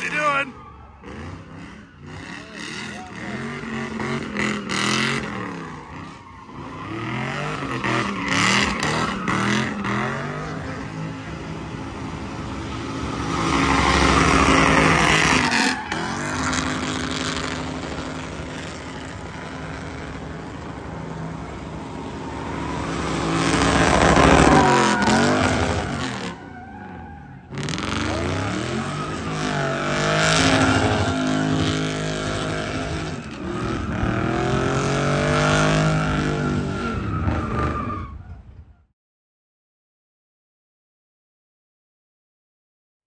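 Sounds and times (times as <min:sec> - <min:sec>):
tires squealing: 0:00.0 - 0:38.9
car engine revving hard: 0:01.0 - 0:06.1, 0:06.8 - 0:26.4, 0:27.5 - 0:37.7.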